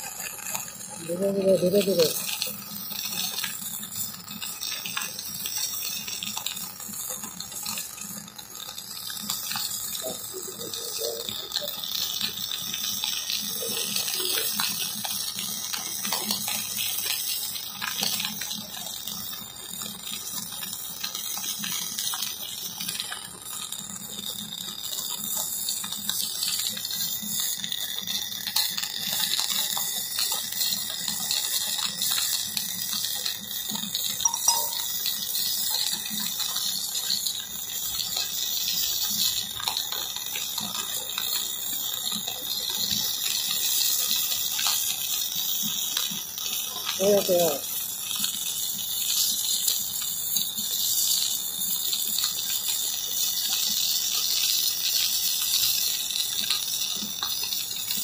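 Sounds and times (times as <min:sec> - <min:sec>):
electric arc welding hiss: 0:00.0 - 0:58.0.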